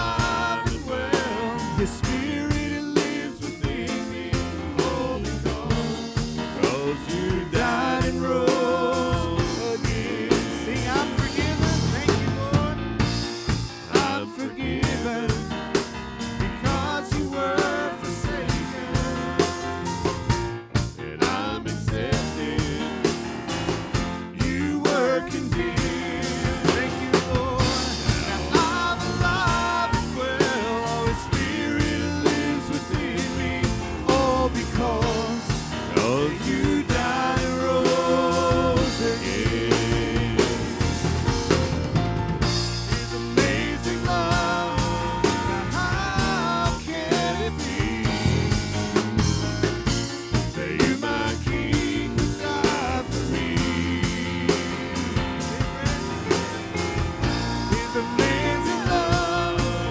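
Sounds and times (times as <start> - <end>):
person singing: 0.0 - 12.8, 13.8 - 20.3, 24.4 - 41.2, 43.0 - 48.6, 50.5 - 59.9
drum kit: 0.0 - 59.9
guitar: 0.0 - 59.9.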